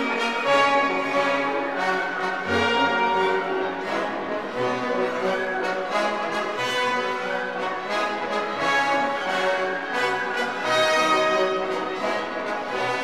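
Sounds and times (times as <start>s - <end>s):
epic orchestral music: 0.0s - 13.0s.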